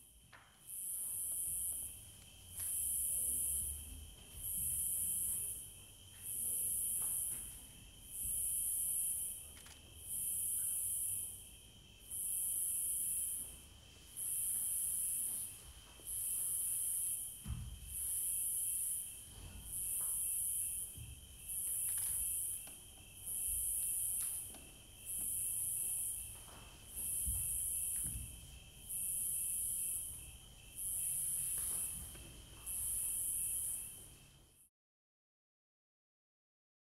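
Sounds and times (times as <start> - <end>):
pulsing insect-like hissing: 0.6 - 7.4, 8.0 - 34.6.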